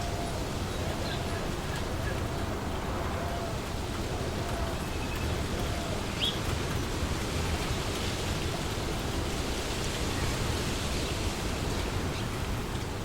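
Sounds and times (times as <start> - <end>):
wind blowing through trees: 0.0 - 13.0.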